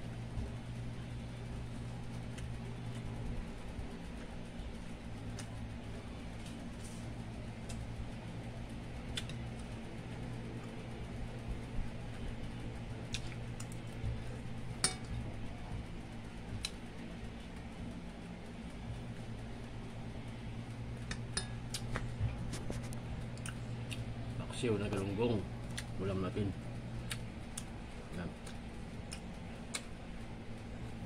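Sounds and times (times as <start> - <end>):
low fan hum: 0.0 - 31.0.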